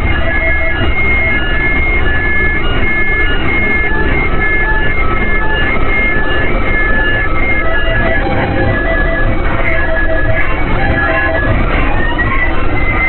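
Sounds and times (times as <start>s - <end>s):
harsh static noise music: 0.0s - 13.0s
heavy low rumble: 0.0s - 13.0s
short high tones: 0.0s - 13.0s.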